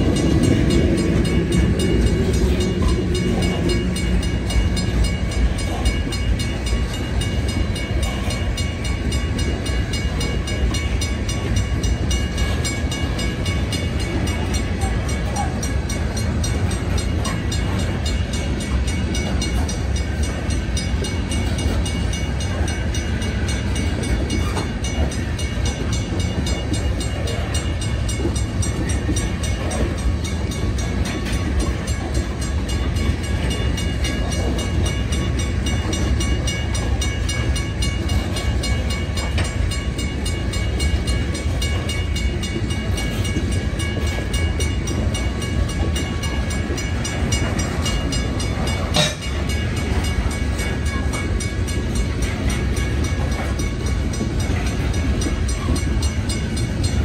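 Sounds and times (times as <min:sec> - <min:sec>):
crossing bell ringing: 0:00.0 - 0:57.0
steel wheels clattering on rail: 0:00.0 - 0:57.0.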